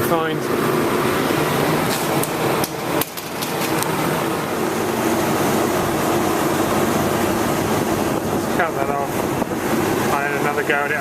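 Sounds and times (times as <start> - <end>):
refrigeration unit humming: 0.0 - 11.0.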